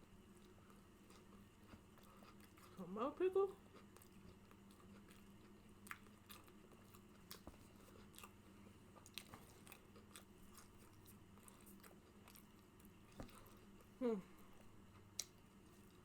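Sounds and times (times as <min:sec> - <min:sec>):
low steady hum: 0:00.0 - 0:16.0
close-miked chewing: 0:00.1 - 0:16.0.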